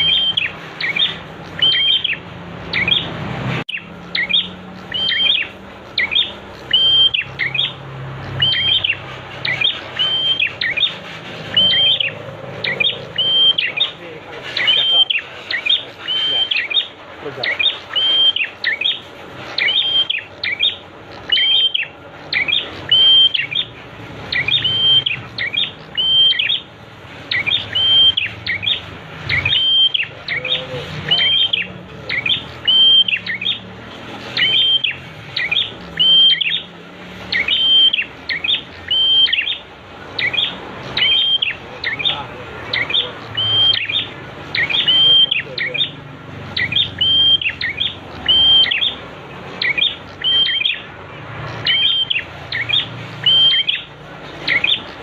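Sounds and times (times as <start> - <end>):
bird calling: 0.0 - 55.0.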